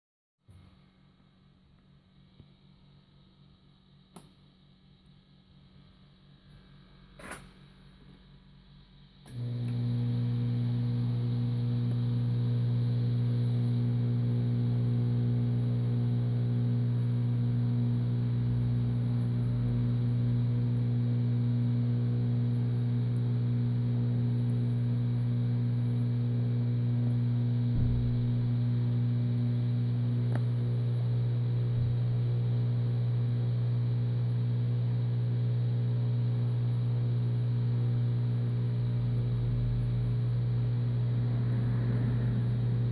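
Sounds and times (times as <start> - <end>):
electric machine humming: 2.8 - 42.9.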